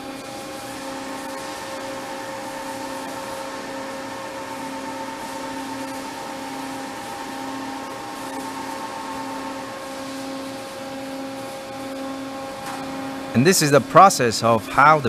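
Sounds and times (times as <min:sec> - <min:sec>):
machine hum over hiss: 0:00.0 - 0:15.0.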